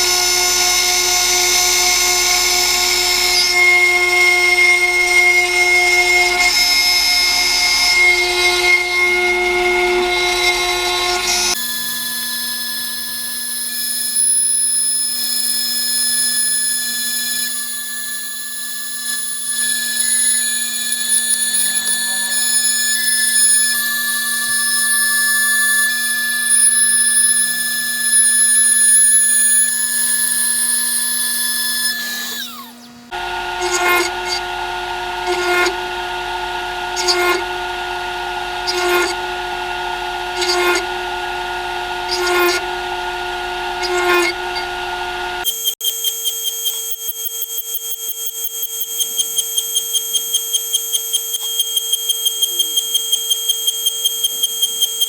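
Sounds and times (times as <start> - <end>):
cutter milling metal: 0.0 - 55.0
router spindle whine: 0.0 - 55.0.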